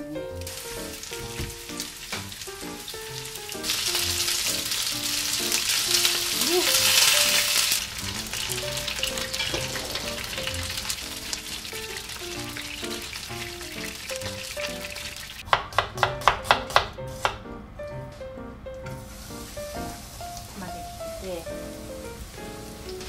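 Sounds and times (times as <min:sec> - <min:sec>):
chicken sizzling in oil: 0:00.4 - 0:15.5, 0:18.9 - 0:23.0.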